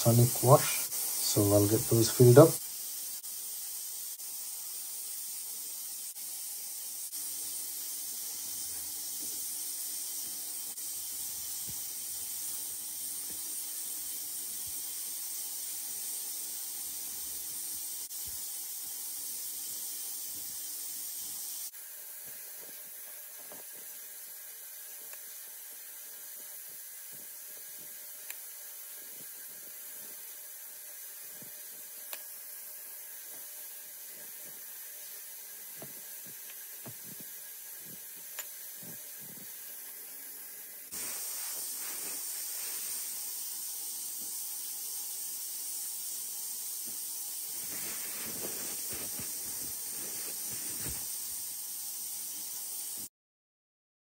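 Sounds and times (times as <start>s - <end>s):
high background hiss: 0.0s - 53.1s.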